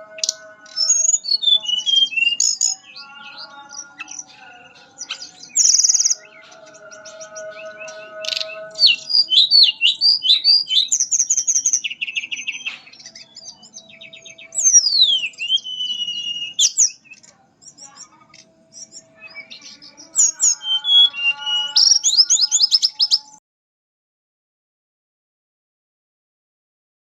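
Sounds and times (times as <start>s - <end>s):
bird singing whistles and trills: 0.0s - 23.4s.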